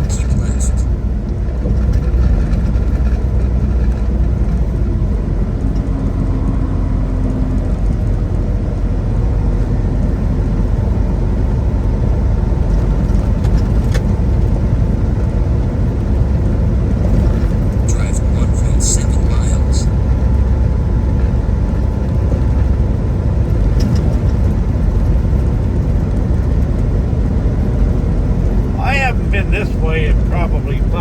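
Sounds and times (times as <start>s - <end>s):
truck engine and road drone: 0.0s - 31.0s.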